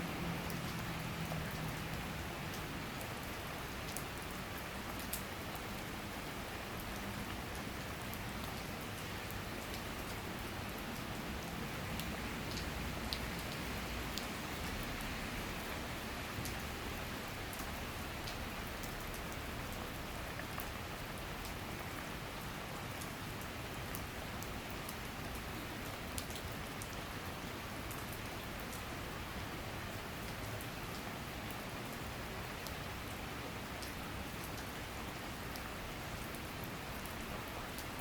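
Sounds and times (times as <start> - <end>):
raindrops ticking on surfaces: 0.0 - 38.0.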